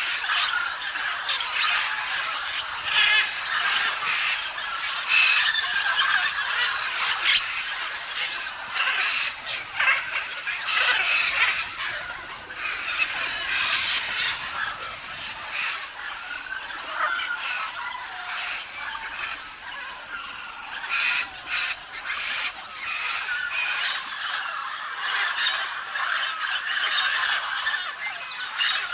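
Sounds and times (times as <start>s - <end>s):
parrots squawking and chattering: 0.0s - 28.9s.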